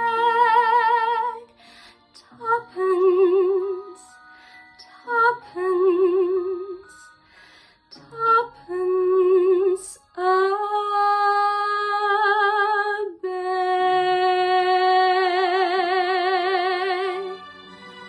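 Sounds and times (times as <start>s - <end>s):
woman singing with vibrato: 0.0s - 1.5s, 2.2s - 4.1s, 4.8s - 7.1s, 7.9s - 17.4s.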